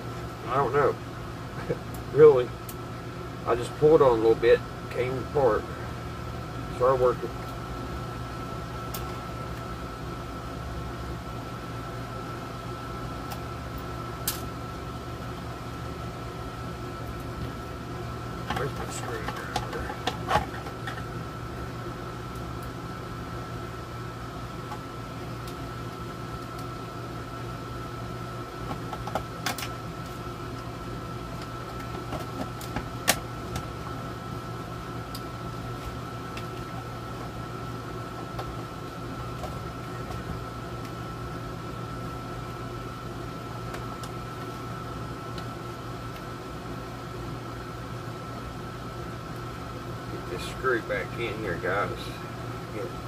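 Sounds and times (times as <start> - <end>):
air conditioner humming: 0.0 - 53.0
faint constant whine: 0.0 - 53.0.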